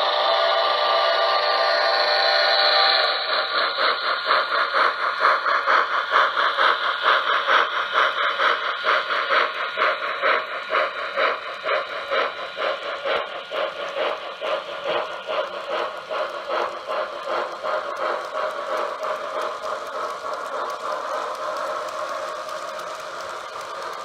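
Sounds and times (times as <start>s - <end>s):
steam exhaust chuffs: 0.0s - 24.0s.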